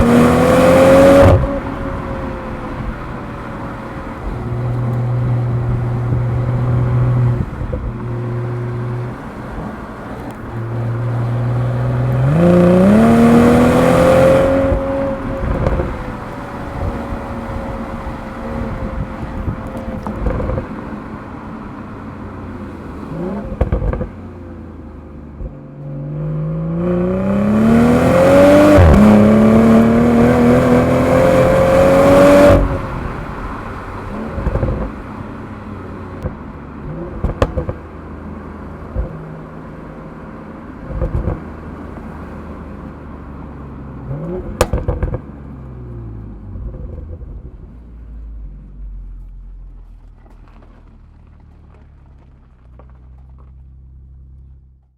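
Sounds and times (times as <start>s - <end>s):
car engine revving: 0.0s - 54.6s.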